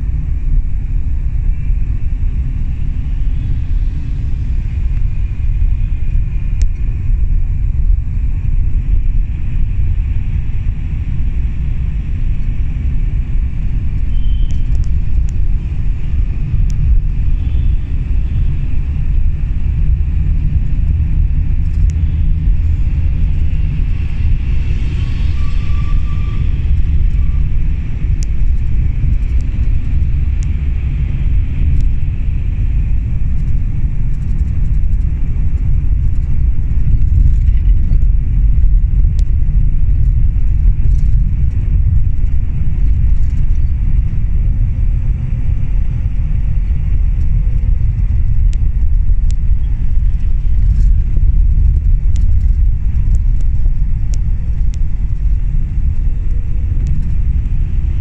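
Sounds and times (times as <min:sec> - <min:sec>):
coach engine and tyres rumbling: 0:00.0 - 0:58.0.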